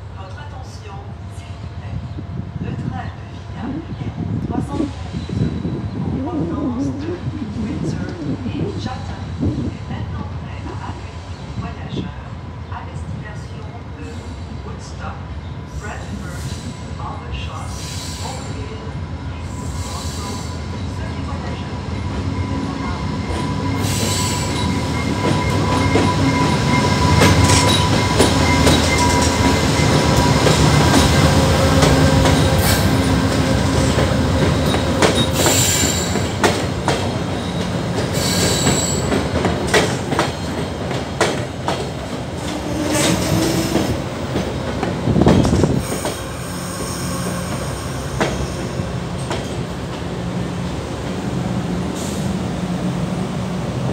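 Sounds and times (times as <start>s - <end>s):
diesel locomotive engine rumbling: 0.0s - 53.9s.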